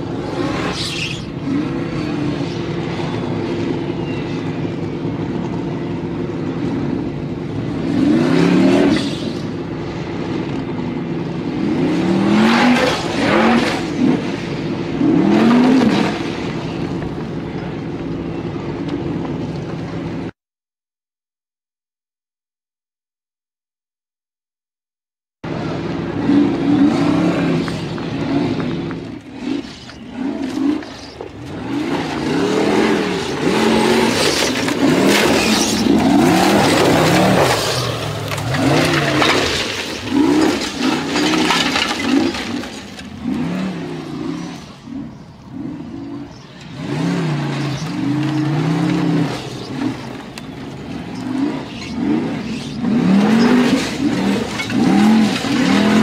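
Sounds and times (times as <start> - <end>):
buggy engine revving hard: 0.0 - 20.4, 25.5 - 56.0.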